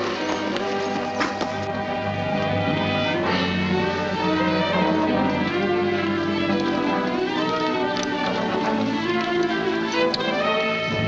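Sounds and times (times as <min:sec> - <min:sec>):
orchestral bowed strings: 0:00.0 - 0:11.0.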